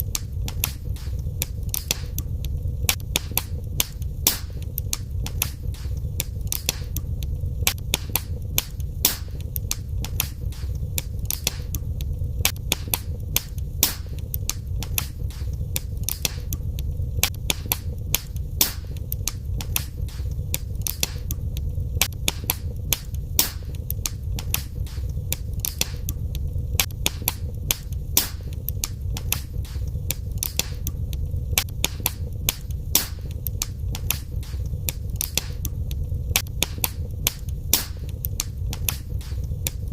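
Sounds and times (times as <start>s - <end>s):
low rumble of burning fire: 0.0s - 39.9s
wood fire popping and snapping: 0.0s - 39.9s.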